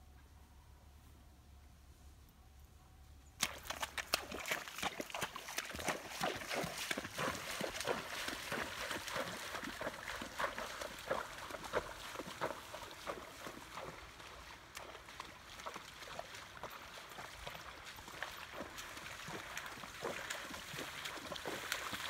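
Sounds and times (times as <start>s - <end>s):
horse hooves splashing through water: 3.4s - 22.0s.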